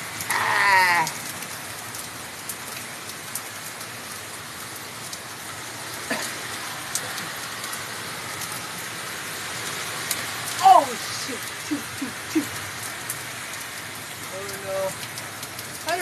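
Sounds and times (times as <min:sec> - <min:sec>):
raindrop ticks: 0:00.0 - 0:16.0
steady rain hiss: 0:00.0 - 0:16.0.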